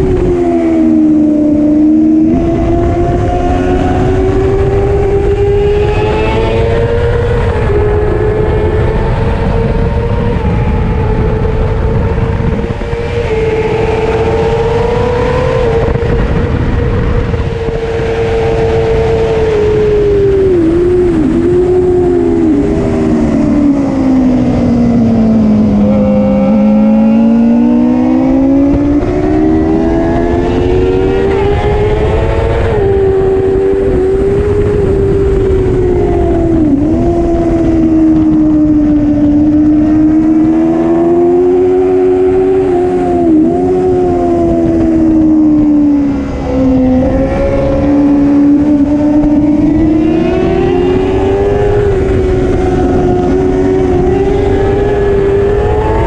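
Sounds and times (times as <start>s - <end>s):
racing motorcycle engine: 0.0s - 56.0s.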